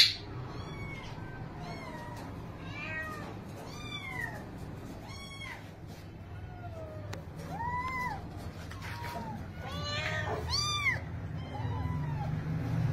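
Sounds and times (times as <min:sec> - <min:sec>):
cat meowing: 0:00.4 - 0:12.6.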